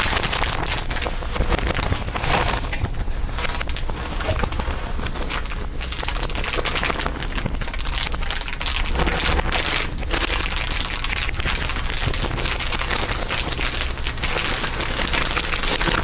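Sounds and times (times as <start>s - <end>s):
dense crinkling: 0.0s - 16.0s.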